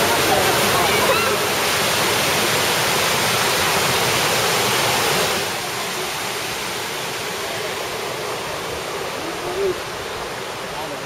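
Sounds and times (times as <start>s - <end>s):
waterfall rushing over rock: 0.0s - 11.0s.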